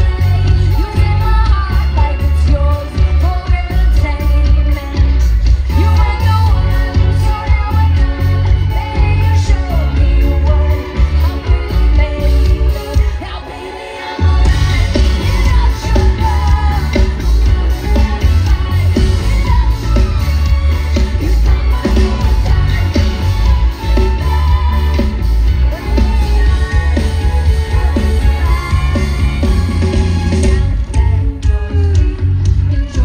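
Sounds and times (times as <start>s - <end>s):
live pop-rock concert music: 0.0s - 33.0s.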